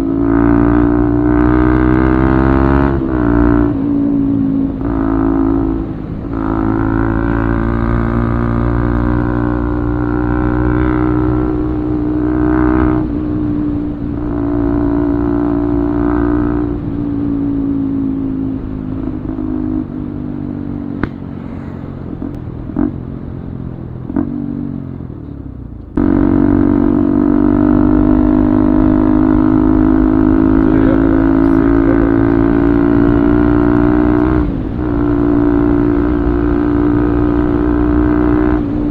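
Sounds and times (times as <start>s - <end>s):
motorcycle exhaust note: 0.0s - 38.9s.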